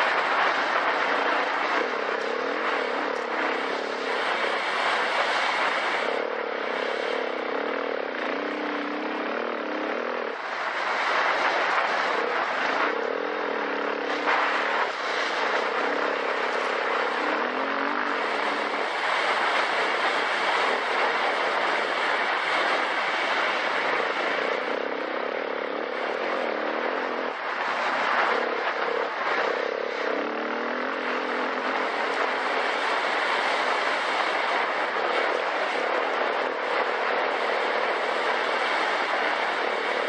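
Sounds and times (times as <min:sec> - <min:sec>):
dirt bike engine: 0:00.0 - 0:40.0
steady rushing noise: 0:00.0 - 0:40.0.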